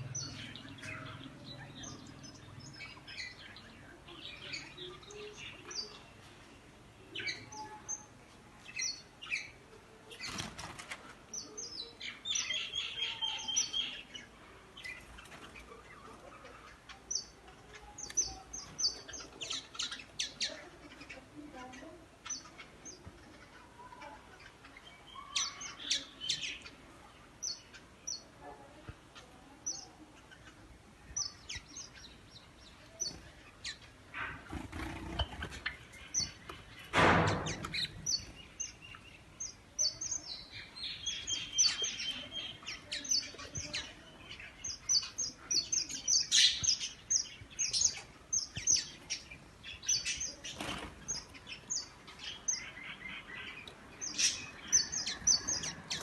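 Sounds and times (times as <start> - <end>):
finches chirping: 0.0 - 6.2, 11.3 - 28.4, 29.1 - 56.0.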